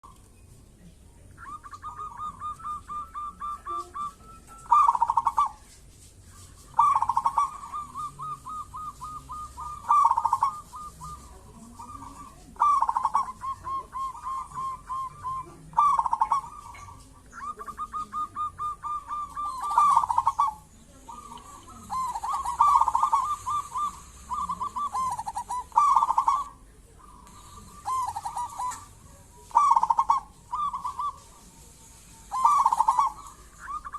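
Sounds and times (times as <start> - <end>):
dove cooing: 1.3 - 33.9.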